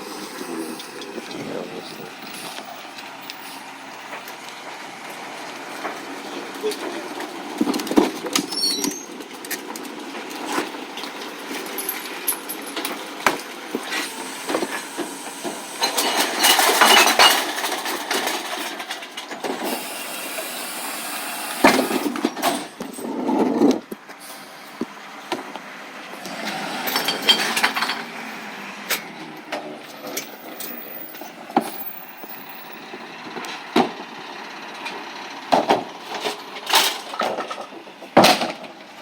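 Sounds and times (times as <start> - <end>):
truck running: 0.0 - 39.0.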